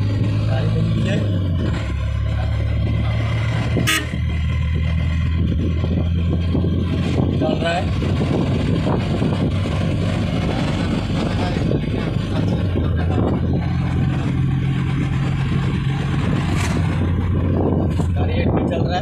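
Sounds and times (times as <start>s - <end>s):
road noise: 0.0s - 19.0s
vehicle engine: 0.0s - 19.0s.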